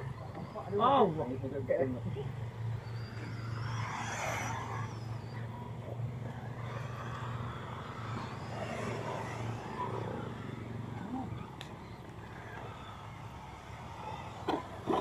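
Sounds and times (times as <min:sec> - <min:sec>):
remote control car motors whining: 0:00.0 - 0:15.0
steady low hum: 0:00.0 - 0:15.0.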